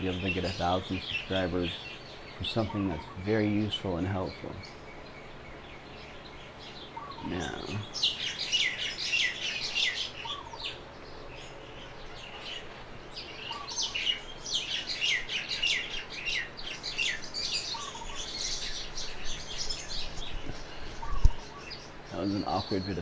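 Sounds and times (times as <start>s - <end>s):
fainter lower bird calls: 0.0s - 23.0s
high downward-sliding bird chirps: 0.0s - 23.0s.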